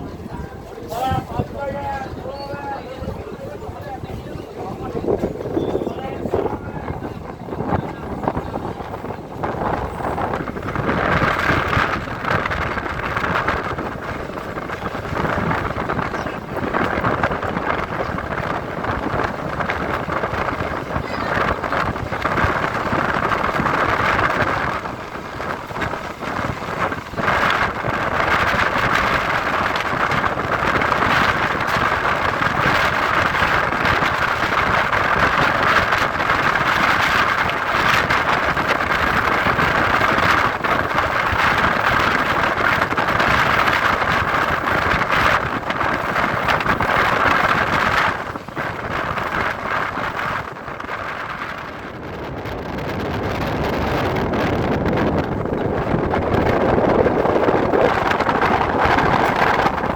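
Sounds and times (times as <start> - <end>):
train wheels on track: 0.0 - 59.9
wind rushing: 0.0 - 59.9.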